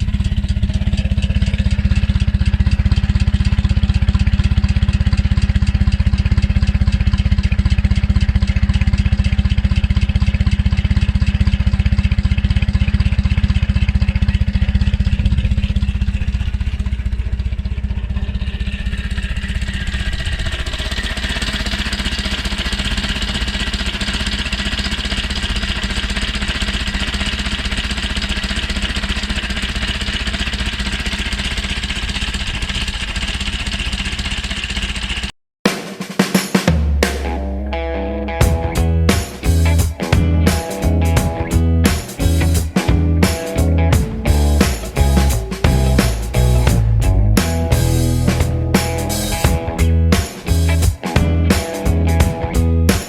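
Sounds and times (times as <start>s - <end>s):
motorcycle engine running: 0.0s - 35.3s, 36.7s - 53.0s.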